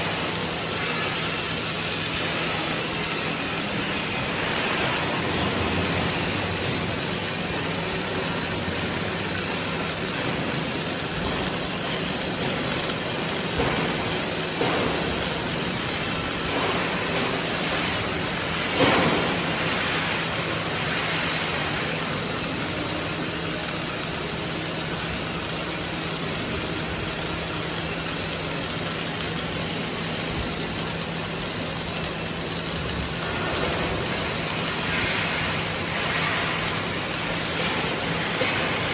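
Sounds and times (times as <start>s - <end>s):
welding hiss and sizzle: 0.0s - 38.9s.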